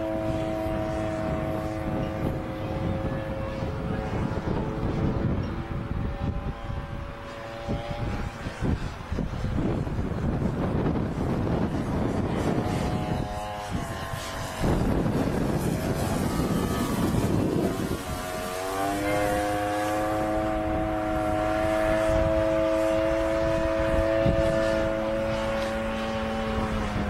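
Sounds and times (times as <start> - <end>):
model airplane engine drone: 0.0 - 27.0
wind noise on microphone: 0.0 - 27.0.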